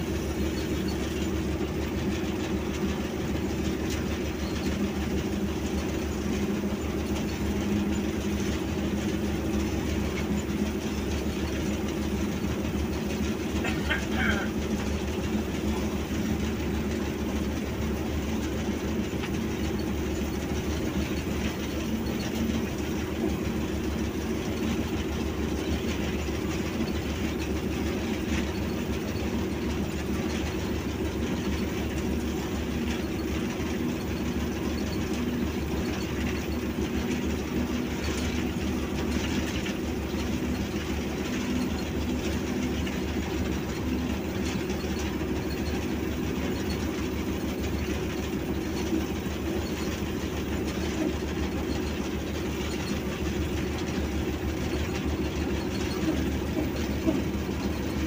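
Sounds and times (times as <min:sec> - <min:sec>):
cab and wheels rattling on track: 0:00.0 - 0:58.0
diesel locomotive engine drone: 0:00.0 - 0:58.0.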